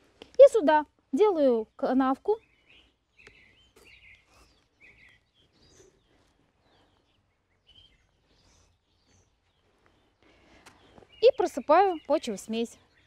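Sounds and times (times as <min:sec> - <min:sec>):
faint birds chirping: 0:00.1 - 0:13.0.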